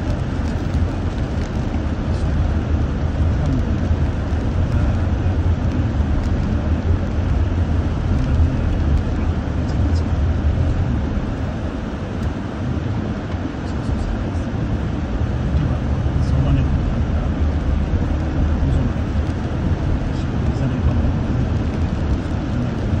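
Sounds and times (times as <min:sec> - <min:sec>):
car driving on wet road: 0:00.0 - 0:23.0.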